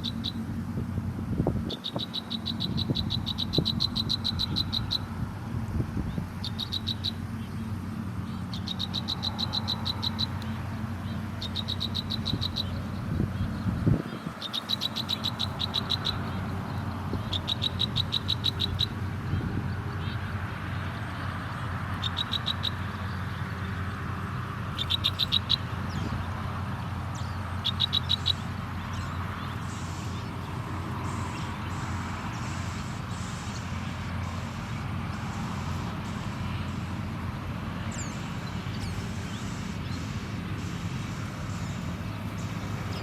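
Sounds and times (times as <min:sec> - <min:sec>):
young sparrows chirping: 0:00.0 - 0:00.6, 0:01.6 - 0:43.0
steady low hum: 0:00.0 - 0:43.0.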